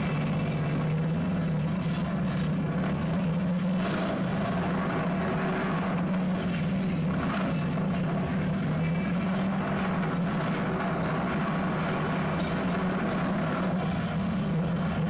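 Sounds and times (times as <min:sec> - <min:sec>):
motorcycle engine through speakers: 0:00.0 - 0:15.0.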